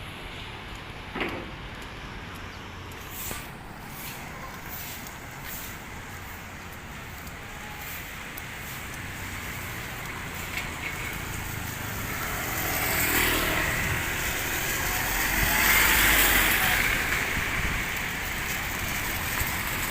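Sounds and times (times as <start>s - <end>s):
vehicle passing: 1.9s - 19.9s.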